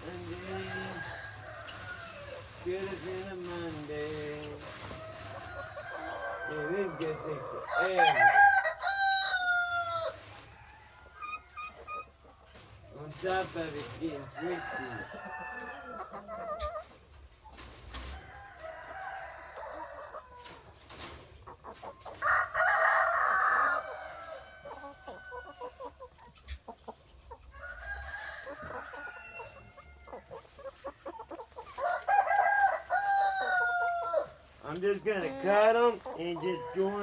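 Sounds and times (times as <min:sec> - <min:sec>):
roosters crowing: 0:00.0 - 0:12.2, 0:12.9 - 0:17.2, 0:17.8 - 0:26.7, 0:27.3 - 0:37.0
hens clucking: 0:00.0 - 0:37.0.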